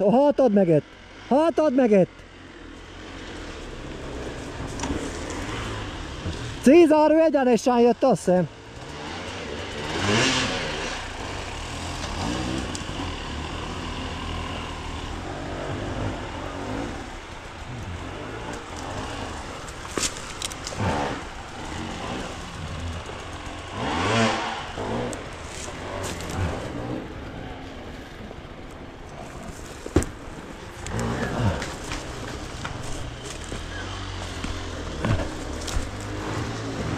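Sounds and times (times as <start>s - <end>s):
motorcycle engine revving: 0.8s - 7.1s, 8.5s - 36.9s.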